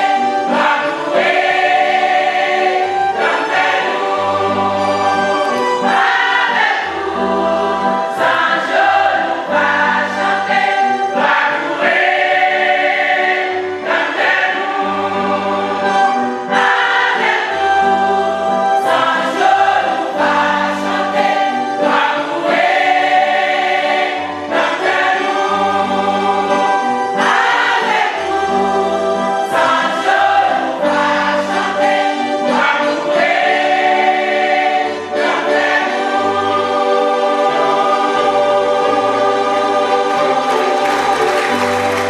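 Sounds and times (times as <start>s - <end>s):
choir singing gospel song: 0.0s - 42.0s.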